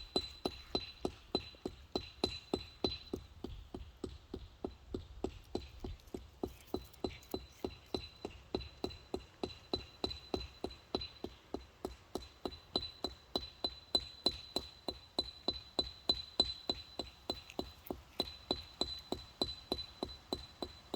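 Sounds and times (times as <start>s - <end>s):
hammer striking stone: 0.0s - 6.2s, 7.0s - 20.9s.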